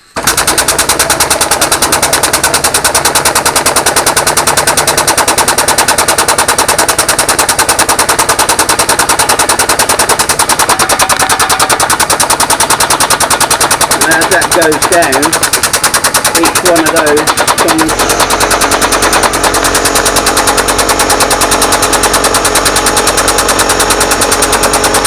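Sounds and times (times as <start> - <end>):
air-driven pump chattering rapidly: 0.0 - 25.0.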